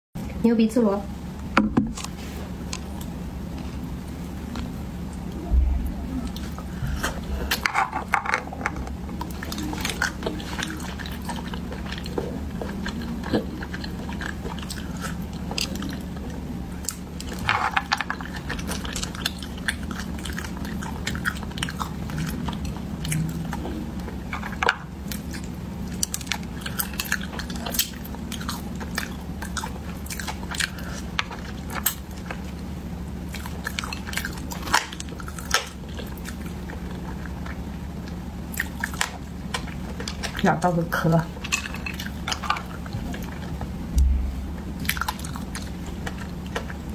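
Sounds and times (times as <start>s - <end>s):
chewing and biting: 6.1s - 40.5s, 41.2s - 46.9s.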